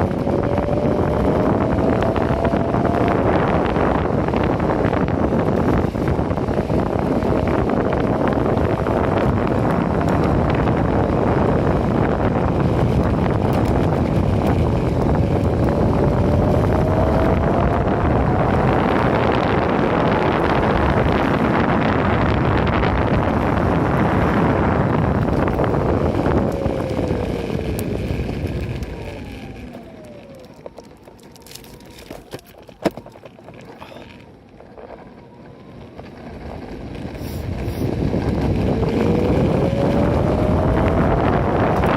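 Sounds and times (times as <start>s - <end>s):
electric motor whine: 0.0s - 41.9s
skateboard wheel noise: 0.0s - 41.9s
wind rushing over microphone: 0.0s - 41.9s.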